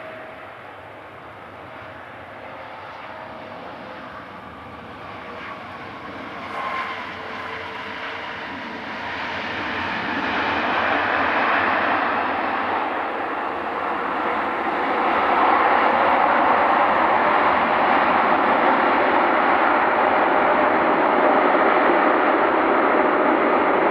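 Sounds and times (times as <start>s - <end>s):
faint engine whine: 0.0s - 23.9s
jet engines roaring: 0.0s - 23.9s.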